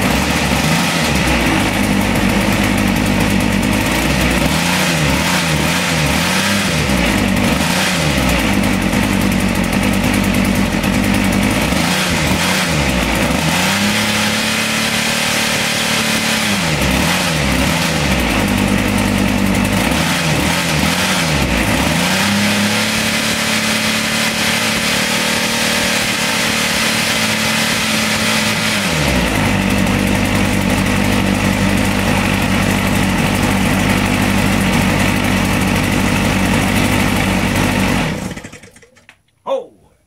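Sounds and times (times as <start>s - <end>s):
leaf blower engine revving: 0.0s - 39.1s.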